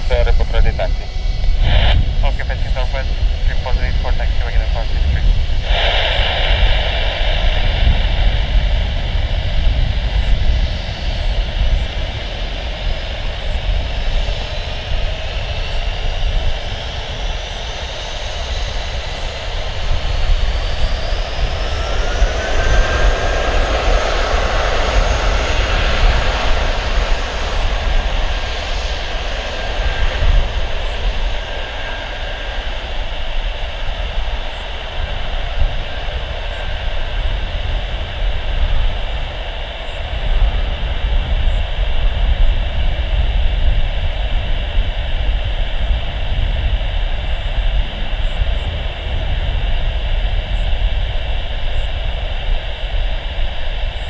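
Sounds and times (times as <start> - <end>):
low rumble: 0.0 - 52.8
jet engines spooling up: 0.0 - 54.0.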